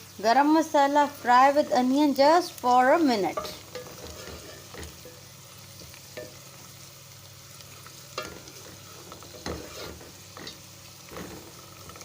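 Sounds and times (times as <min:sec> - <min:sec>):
onion and spices sizzling in oil: 0:00.0 - 0:12.0.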